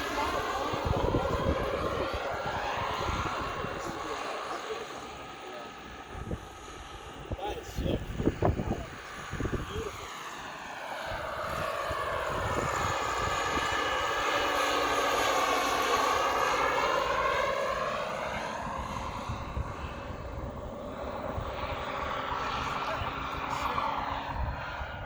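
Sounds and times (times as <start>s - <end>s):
model helicopter whine flying past: 0.0s - 25.0s.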